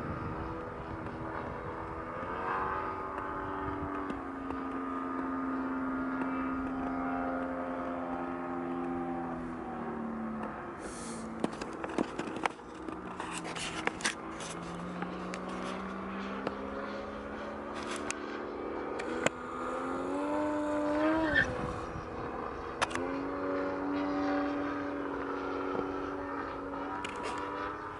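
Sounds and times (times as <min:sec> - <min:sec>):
model aircraft engine: 0:00.0 - 0:27.9.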